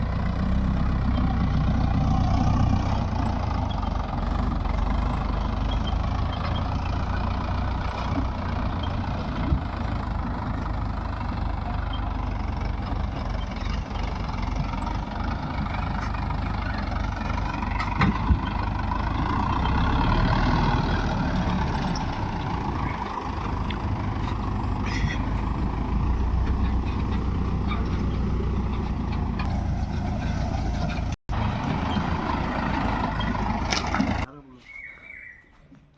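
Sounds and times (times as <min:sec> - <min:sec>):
tractor diesel engine running: 0:00.0 - 0:34.4.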